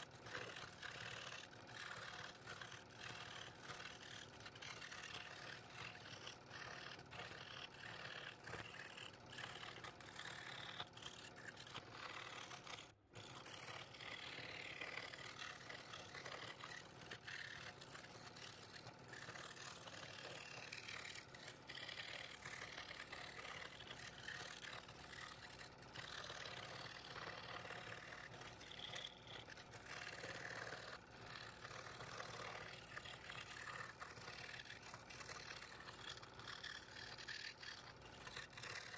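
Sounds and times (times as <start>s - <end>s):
scroll saw cutting thin wood: 0.0s - 38.9s.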